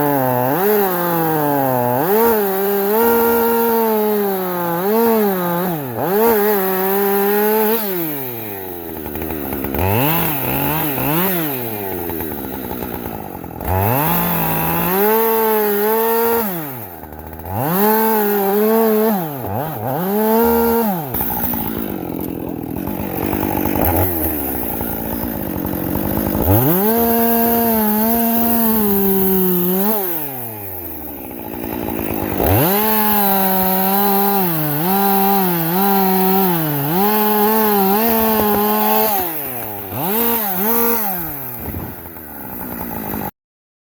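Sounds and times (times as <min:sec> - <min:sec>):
chainsaw cutting wood: 0:00.0 - 0:43.4.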